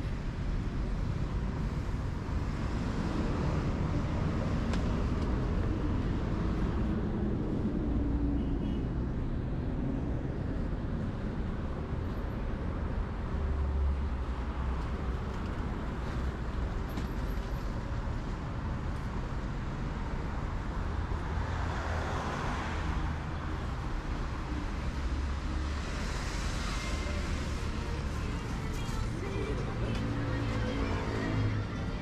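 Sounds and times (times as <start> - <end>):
cars passing: 0.2 - 32.0.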